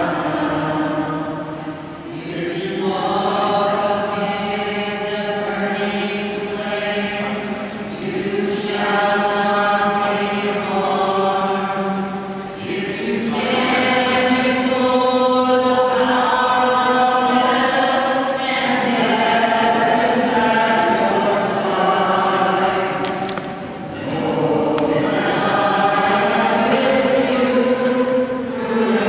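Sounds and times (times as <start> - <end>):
congregation singing a hymn: 0.0 - 29.0.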